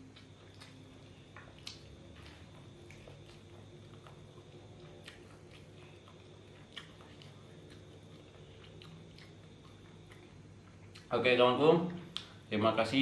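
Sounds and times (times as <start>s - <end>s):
chewing food: 0.0s - 11.2s
steady low hum: 0.0s - 13.0s.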